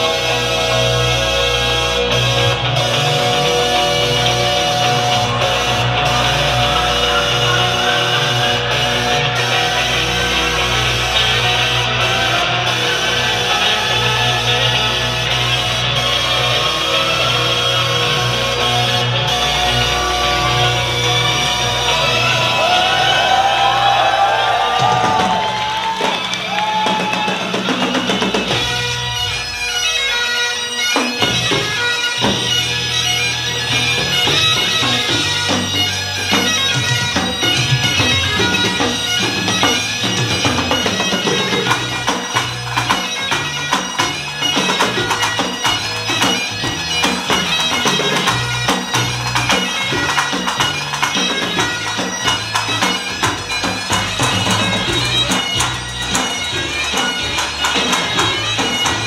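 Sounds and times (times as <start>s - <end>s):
bagpipes playing a tune: 0.0s - 59.0s
pipe band drums beating: 0.0s - 59.0s.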